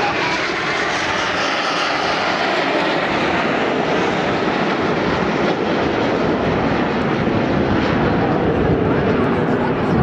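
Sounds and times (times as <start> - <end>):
jet engines flying past: 0.0 - 10.0.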